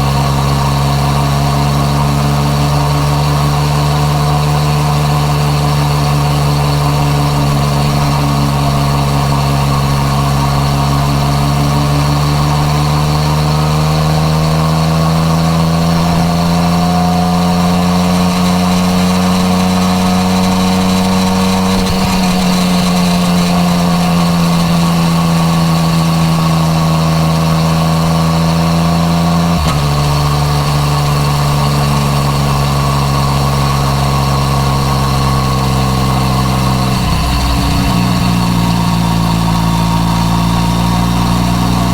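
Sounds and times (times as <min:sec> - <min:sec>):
motorcycle engine on the road: 0:00.0 - 0:41.9.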